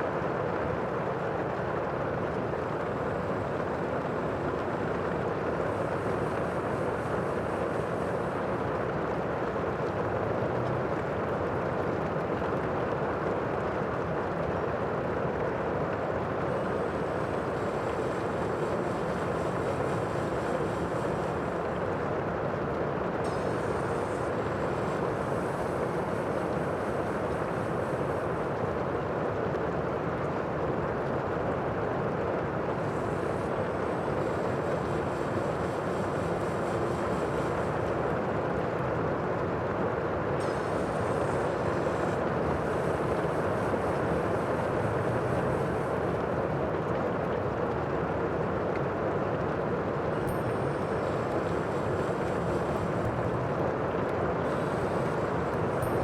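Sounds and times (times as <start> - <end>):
rushing sea water: 0.0 - 56.0
wind: 0.0 - 56.0.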